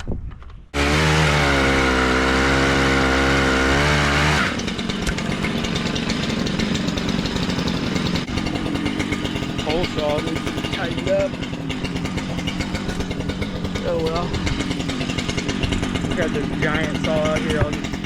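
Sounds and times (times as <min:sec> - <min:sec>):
chainsaw running: 0:00.8 - 0:18.0.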